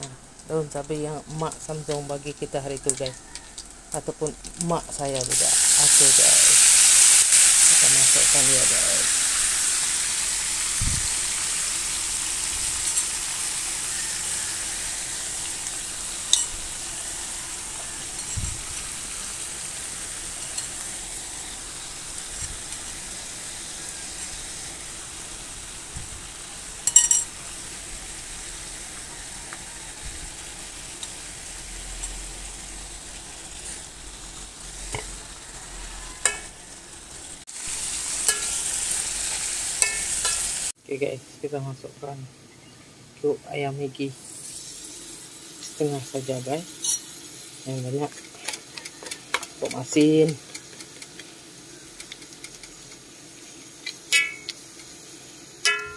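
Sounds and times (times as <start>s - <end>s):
greens sizzling in a wok: 0.0s - 55.9s.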